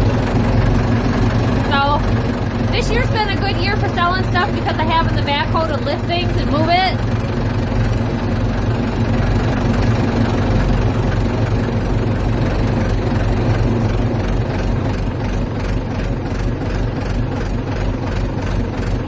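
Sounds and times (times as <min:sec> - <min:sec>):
backhoe engine humming: 0:00.0 - 0:19.0.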